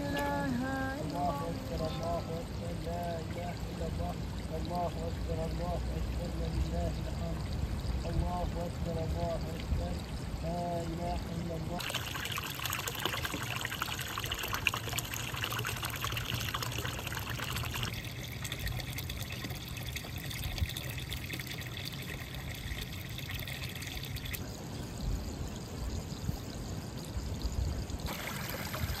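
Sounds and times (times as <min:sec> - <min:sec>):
water pouring into trough: 0:00.0 - 0:24.4, 0:28.0 - 0:29.0.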